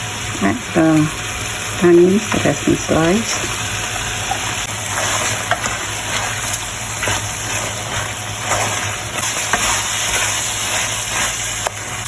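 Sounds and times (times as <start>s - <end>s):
sauce sizzling and bubbling: 0.0s - 12.0s.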